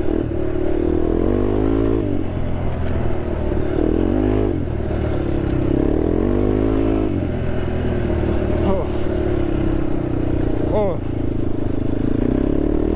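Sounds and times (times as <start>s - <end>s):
quad bike engine revving: 0.0s - 12.9s.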